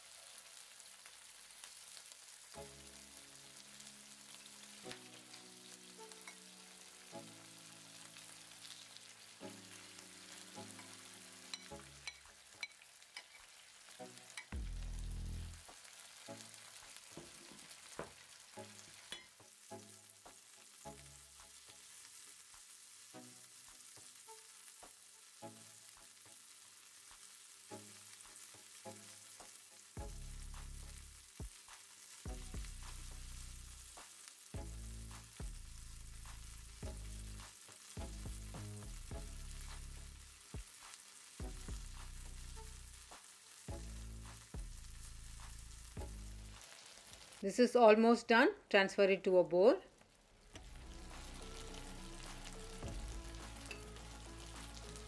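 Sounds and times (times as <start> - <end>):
chicken sizzling in hot oil: 0.0 - 47.5, 50.2 - 55.0.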